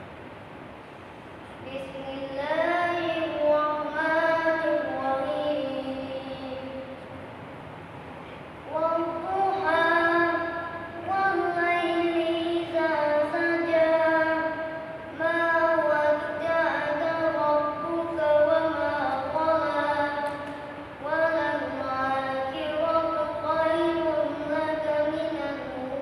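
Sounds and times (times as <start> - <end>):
boy chanting recitation: 1.5 - 7.2, 8.6 - 26.0.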